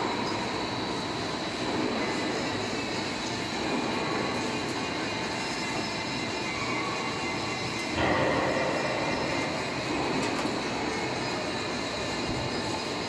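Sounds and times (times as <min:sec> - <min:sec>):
roll forming machine rumbling: 0:00.0 - 0:13.0.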